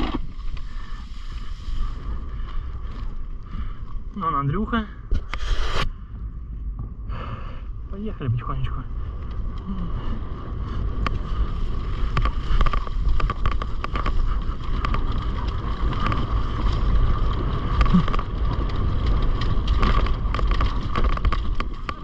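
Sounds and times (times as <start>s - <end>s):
bike rattling over terrain: 0.0s - 5.3s, 8.2s - 22.0s
wind buffeting microphone: 0.7s - 22.0s.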